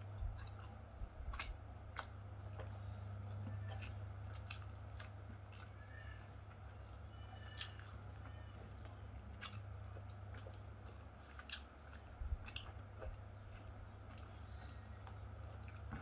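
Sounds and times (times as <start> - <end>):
man chewing with wet smacks: 0.0 - 16.0
steady low hum: 0.0 - 16.0.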